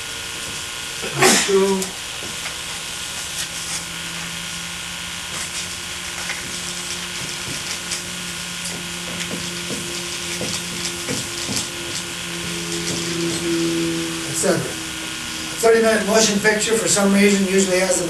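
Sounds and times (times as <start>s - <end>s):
low hum: 0.0s - 18.0s
steady hiss: 0.0s - 18.0s.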